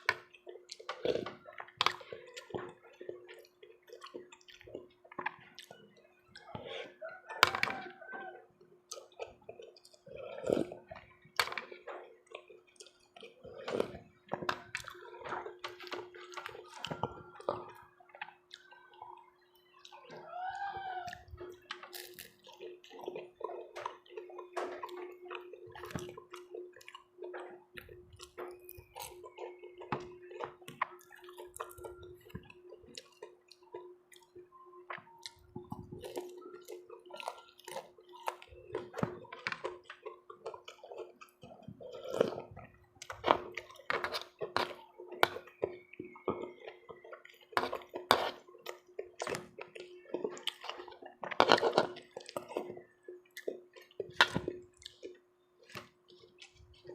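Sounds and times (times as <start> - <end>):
wet chewing: 0.0 - 56.9.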